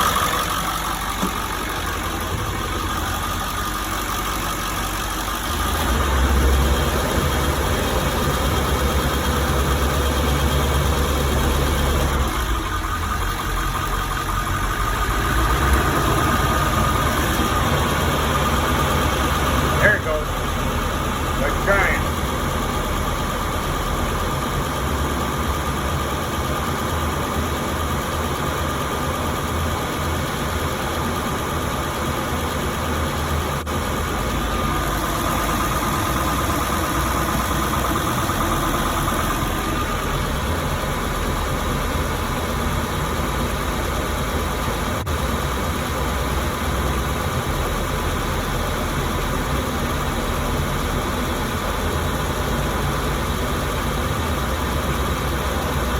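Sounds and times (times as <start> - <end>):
diesel engine idling: 0.0 - 55.9
thin steady whine: 0.0 - 55.9.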